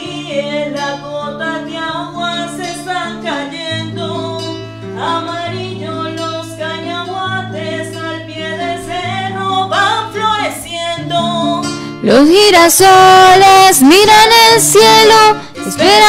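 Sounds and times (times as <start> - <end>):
strummed acoustic guitar: 0.0 - 16.0
woman singing: 0.0 - 16.0.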